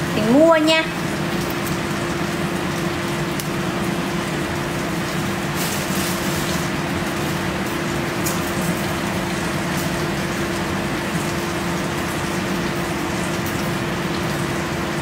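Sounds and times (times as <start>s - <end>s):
range hood fan hissing: 0.0s - 15.0s.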